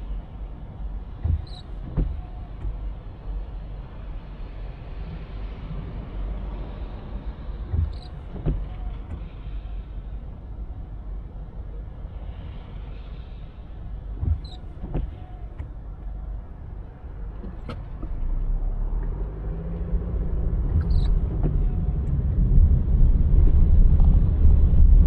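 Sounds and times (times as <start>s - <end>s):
car driving on wet road: 0.0s - 25.0s.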